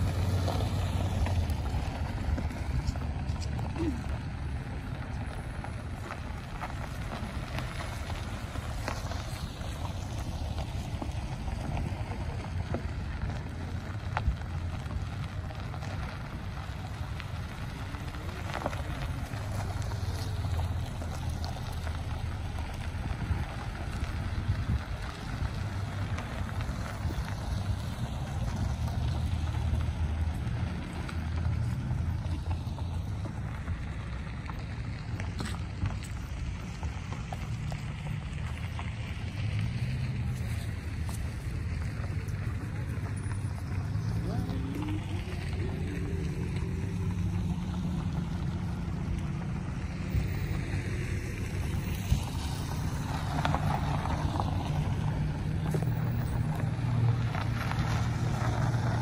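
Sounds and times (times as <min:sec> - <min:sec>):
cars rolling on gravel: 0:00.0 - 0:59.0
wind rumble on microphone: 0:00.0 - 0:59.0.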